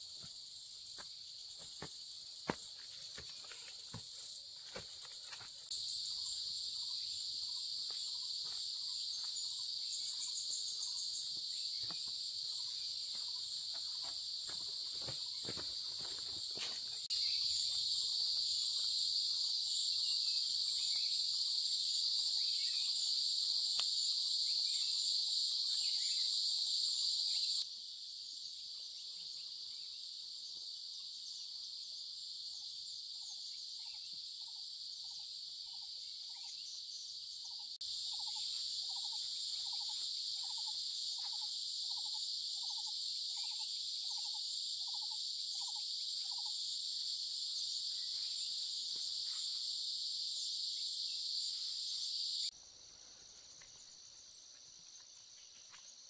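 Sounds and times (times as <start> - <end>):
shrill insect chorus: 0.0 - 56.0.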